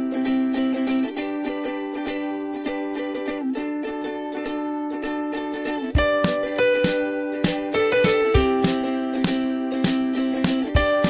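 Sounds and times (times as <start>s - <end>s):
plucked strings music: 0.0s - 11.0s.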